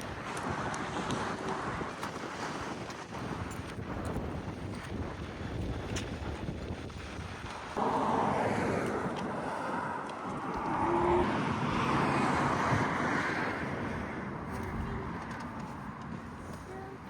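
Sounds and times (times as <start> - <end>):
sea surf washing onto beach: 0.0 - 17.0
wind on microphone: 0.0 - 17.0.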